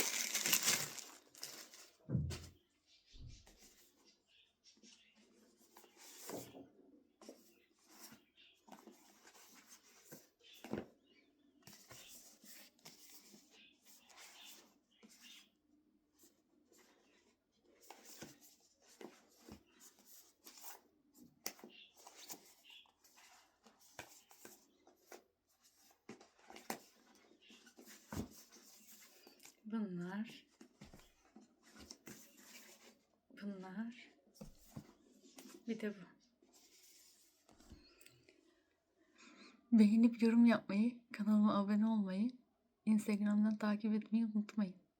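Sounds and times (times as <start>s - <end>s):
books and packaging rustling: 0.0s - 2.6s, 3.4s - 33.3s, 34.2s - 38.0s.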